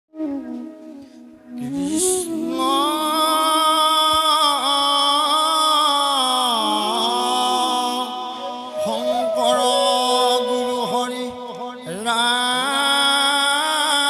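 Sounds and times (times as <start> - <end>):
men chanting long sung note: 1.7 - 14.0.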